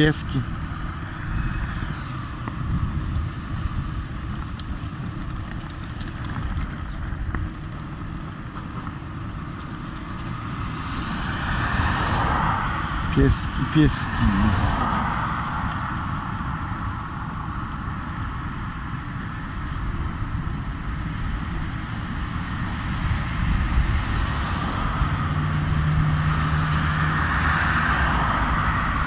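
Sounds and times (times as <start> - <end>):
road rumble: 0.0 - 29.0
steady low hum: 0.0 - 29.0
wind: 0.0 - 29.0.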